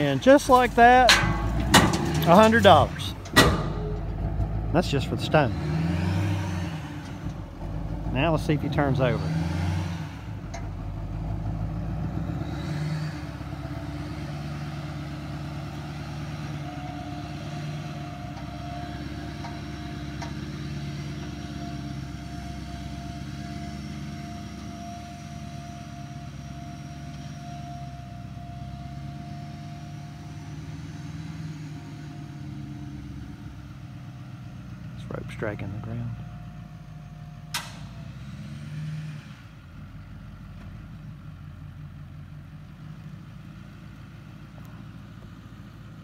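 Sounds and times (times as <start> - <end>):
truck engine running: 0.0 - 38.6.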